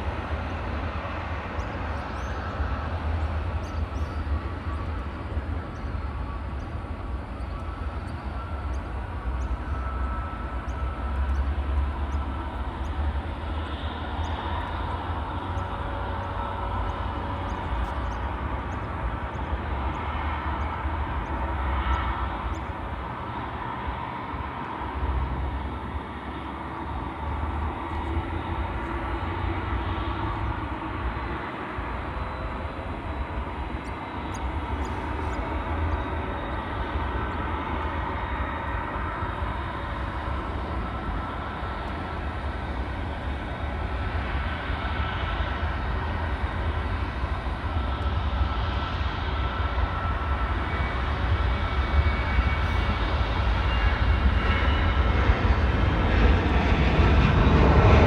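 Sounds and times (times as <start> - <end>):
distant jet engines running: 0.0 - 58.0.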